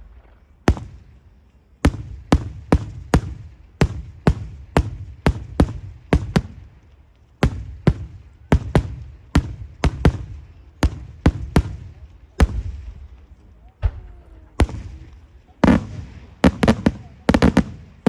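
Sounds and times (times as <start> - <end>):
loud firework bangs with rumble: 0.0 - 1.2, 1.8 - 6.8, 7.4 - 18.0.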